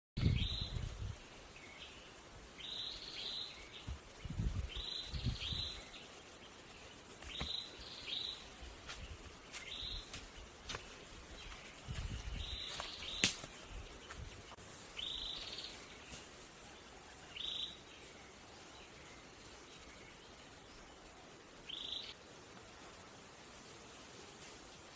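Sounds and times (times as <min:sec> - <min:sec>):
bird chirping: 0:00.2 - 0:22.2.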